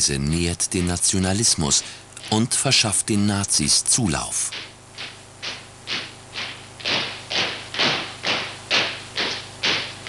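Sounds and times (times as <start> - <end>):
rhythmic thuds: 0.0 - 10.0.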